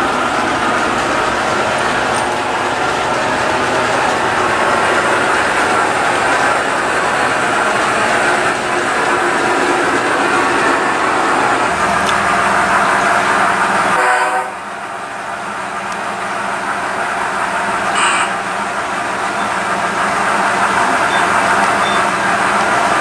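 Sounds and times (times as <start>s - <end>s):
model train wheels clattering: 0.0s - 13.6s, 17.6s - 23.0s.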